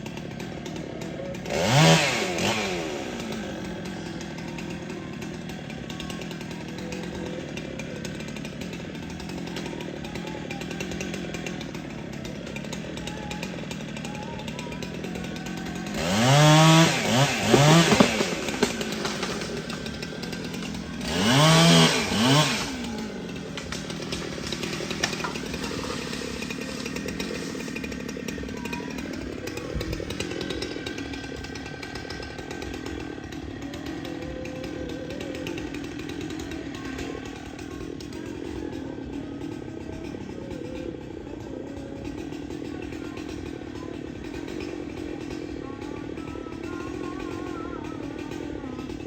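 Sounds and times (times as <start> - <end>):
chainsaw revving: 0.0 - 49.0.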